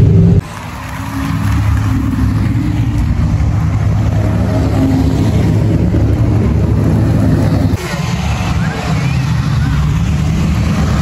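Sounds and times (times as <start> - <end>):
sports cars driving past: 0.0 - 11.0.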